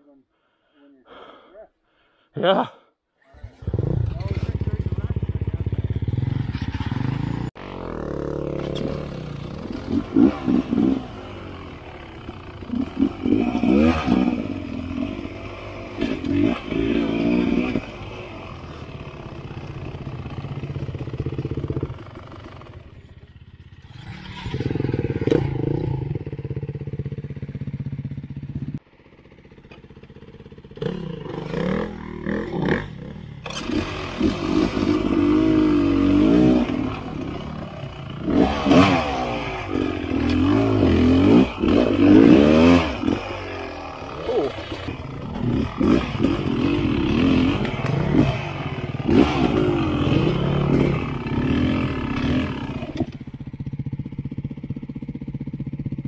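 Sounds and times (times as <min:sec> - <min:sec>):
dirt bike engine revving: 0:03.4 - 0:56.0.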